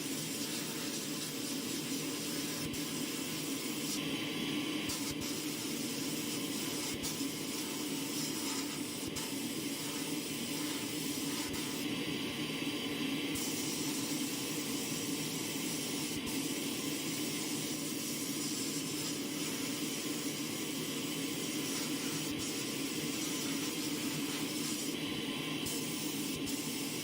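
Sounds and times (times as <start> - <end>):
steady hissing noise: 0.0 - 27.0.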